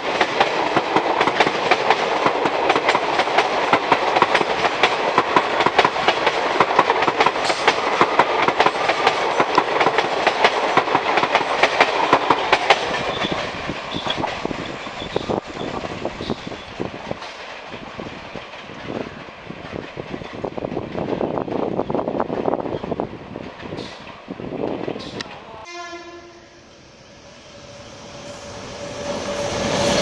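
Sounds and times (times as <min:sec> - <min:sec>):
train wheels clattering over rails: 0:00.0 - 0:25.2.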